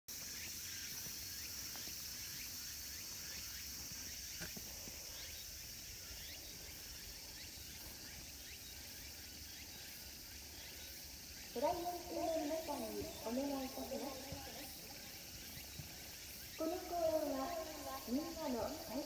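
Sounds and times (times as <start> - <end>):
high-pitched insect chorus chirping: 0.1 - 19.0.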